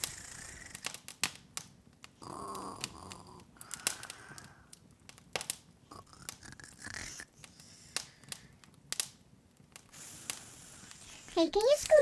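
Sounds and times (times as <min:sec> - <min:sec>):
open fire crackling: 0:00.0 - 0:12.0.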